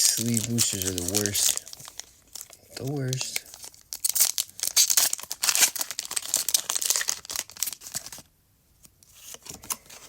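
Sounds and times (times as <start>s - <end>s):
foil wrapper tearing and crinkling: 0.0s - 8.3s.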